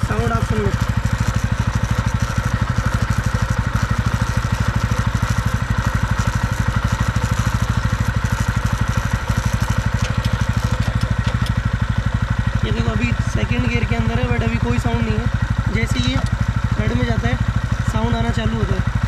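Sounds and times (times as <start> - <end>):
motorcycle engine thumping: 0.0 - 19.0.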